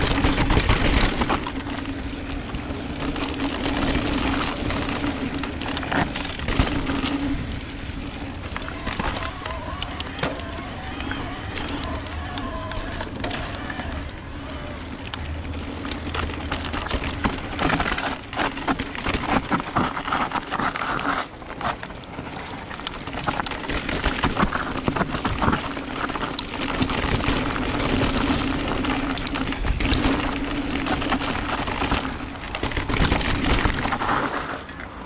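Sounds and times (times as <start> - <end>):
bike rattling and knocking: 0.0 - 35.0
tyres rolling over dirt: 0.0 - 35.0.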